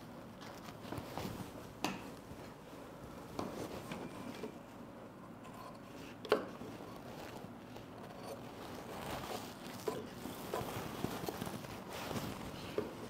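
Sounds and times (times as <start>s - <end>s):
cloth rustling: 0.1s - 4.8s, 6.0s - 13.0s.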